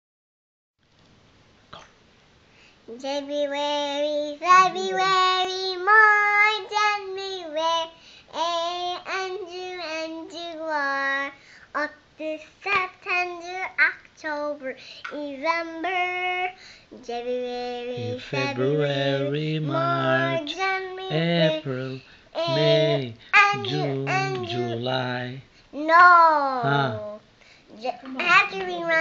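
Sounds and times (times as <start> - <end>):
girl singing unaccompanied: 2.8 - 29.0.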